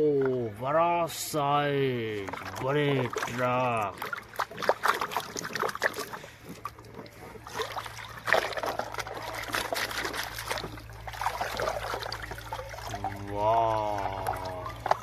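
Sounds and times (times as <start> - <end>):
steady low hum: 0.0 - 15.0
water splashing and trickling: 0.0 - 15.0.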